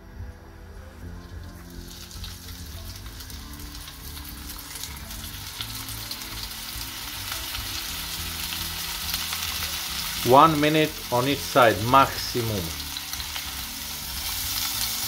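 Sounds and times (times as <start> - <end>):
fish sizzling in a frying pan: 1.4 - 15.0.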